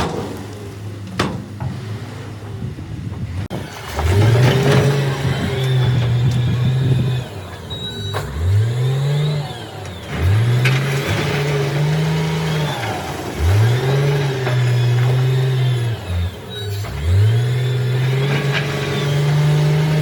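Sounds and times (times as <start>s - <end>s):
heavy equipment engine revving: 0.0s - 20.0s.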